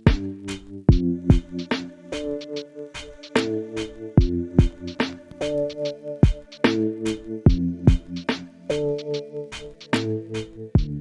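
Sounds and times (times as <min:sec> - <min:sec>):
electronic music with drum machine: 0:00.0 - 0:11.0.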